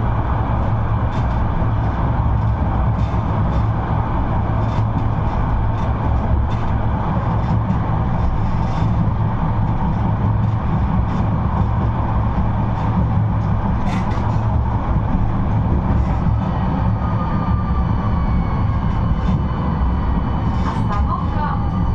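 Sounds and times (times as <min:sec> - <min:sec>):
tram wheels rumbling on rail: 0:00.0 - 0:21.9.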